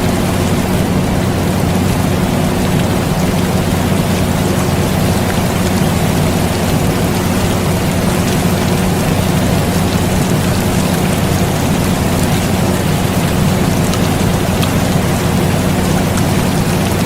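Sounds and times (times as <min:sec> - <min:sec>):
air conditioner hum: 0:00.0 - 0:17.0
steady rain: 0:00.0 - 0:17.0.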